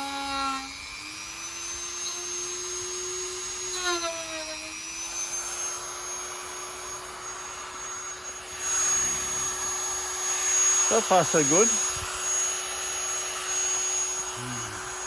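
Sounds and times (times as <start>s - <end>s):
grinding rasp: 0.0s - 15.0s
rotary tool cutting plastic: 0.0s - 15.0s.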